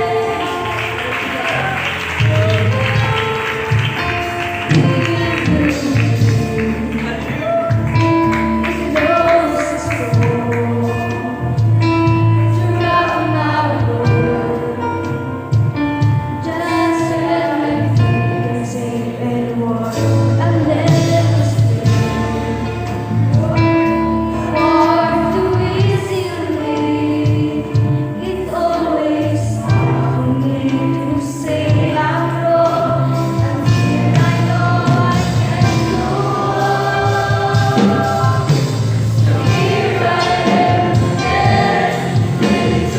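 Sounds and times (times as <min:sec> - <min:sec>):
bass line: 0:00.0 - 0:42.9
choir singing gospel: 0:00.0 - 0:42.9
live band accompaniment: 0:00.0 - 0:42.9.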